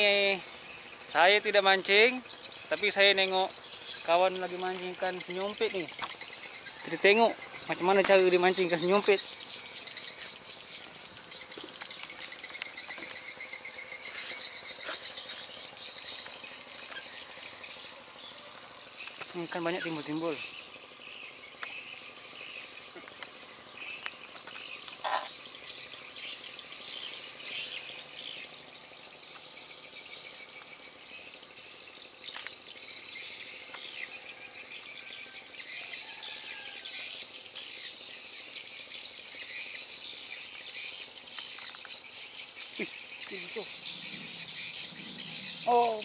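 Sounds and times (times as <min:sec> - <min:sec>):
birds chirping: 0:00.0 - 0:46.0
insects chirping: 0:00.0 - 0:46.0.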